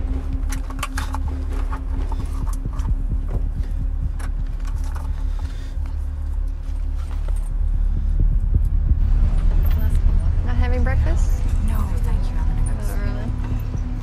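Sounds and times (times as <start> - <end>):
airliner cabin drone: 0.0 - 14.0.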